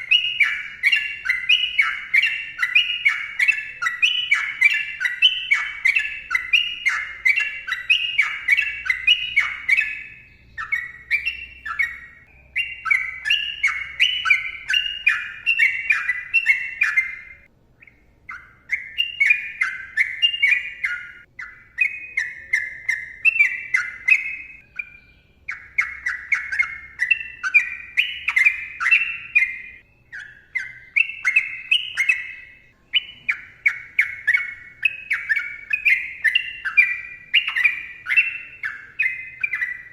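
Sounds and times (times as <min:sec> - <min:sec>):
bulbul singing rapid notes: 0:00.0 - 0:39.9.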